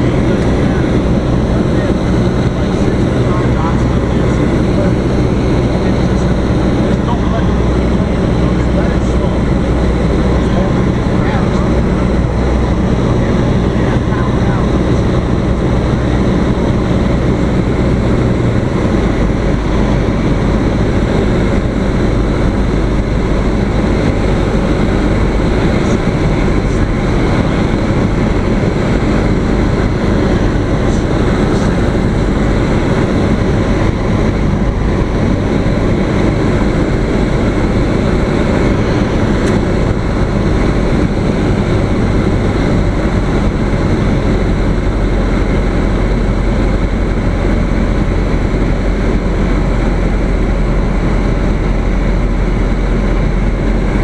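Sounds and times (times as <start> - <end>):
airflow noise: 0.0 - 54.0
light aircraft engine droning: 0.0 - 54.0.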